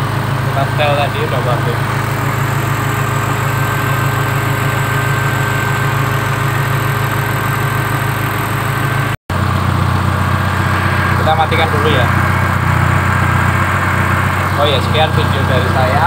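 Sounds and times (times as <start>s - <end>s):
car engine idling: 0.0s - 16.0s
faint steady whine: 0.0s - 16.0s.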